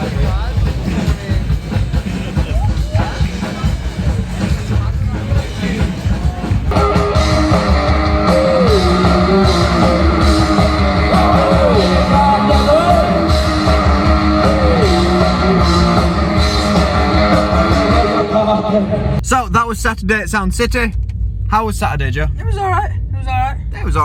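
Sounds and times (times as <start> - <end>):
loud rock music: 0.0 - 19.3.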